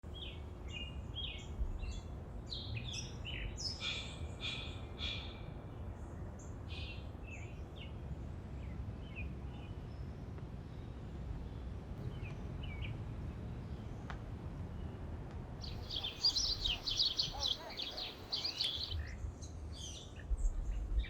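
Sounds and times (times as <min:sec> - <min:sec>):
small birds chirping: 0:00.1 - 0:21.0
steady low rumble: 0:00.1 - 0:21.0.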